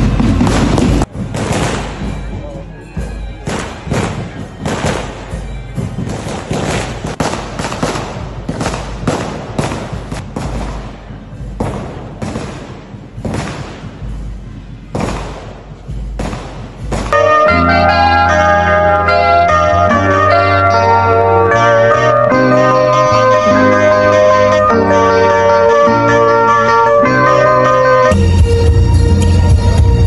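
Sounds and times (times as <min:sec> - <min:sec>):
loud bangs: 0:00.0 - 0:28.2.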